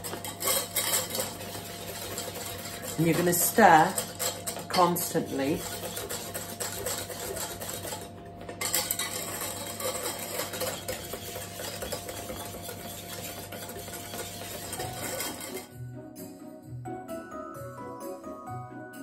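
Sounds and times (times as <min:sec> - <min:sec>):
wooden spoon scraping a saucepan: 0:00.0 - 0:15.7.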